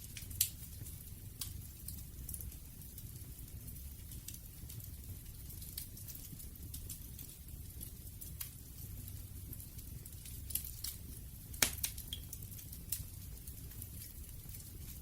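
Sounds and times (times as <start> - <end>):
campfire wood crackling: 0.0 - 15.0
low rumble of flames: 0.0 - 15.0.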